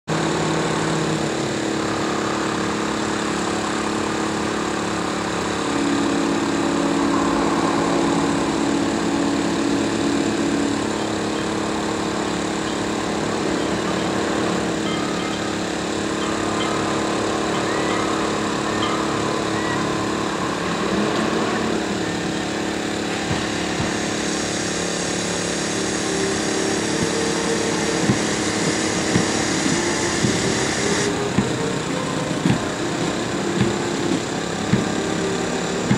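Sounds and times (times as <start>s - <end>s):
engine and machinery drone: 0.0s - 35.9s
constant humming tones: 0.1s - 35.9s.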